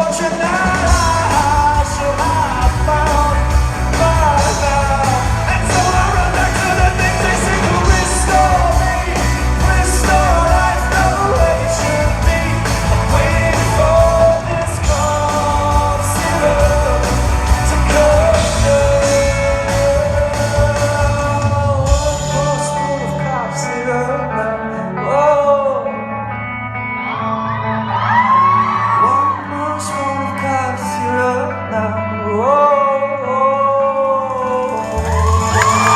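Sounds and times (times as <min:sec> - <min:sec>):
man singing: 0:00.0 - 0:27.3, 0:28.3 - 0:35.9
live rock band: 0:00.0 - 0:35.9.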